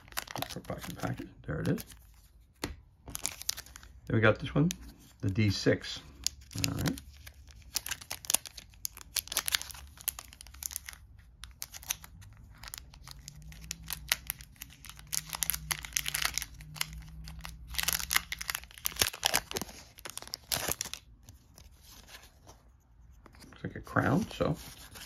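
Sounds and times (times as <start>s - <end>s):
cellophane wrap crinkling and tearing: 0.0s - 2.2s, 3.1s - 4.8s, 6.1s - 22.4s.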